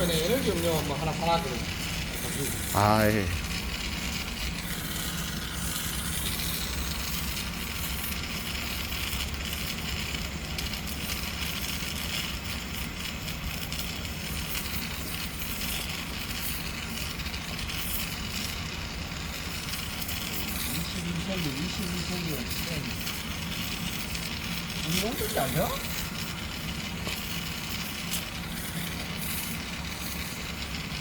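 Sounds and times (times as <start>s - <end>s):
arc welding crackling: 0.0s - 31.0s.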